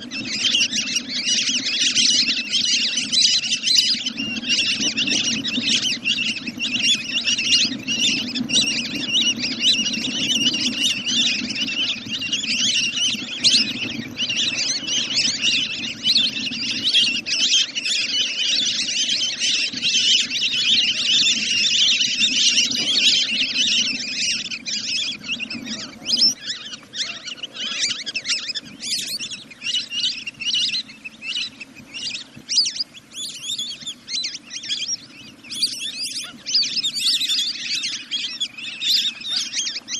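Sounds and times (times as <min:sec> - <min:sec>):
rapid high bird calls: 0:00.0 - 0:39.9.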